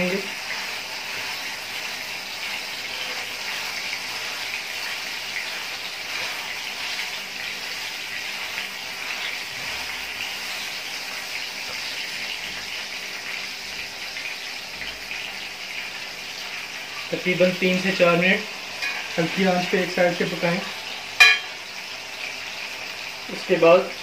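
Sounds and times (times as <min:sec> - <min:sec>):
meat sizzling in oil: 0:00.0 - 0:24.0.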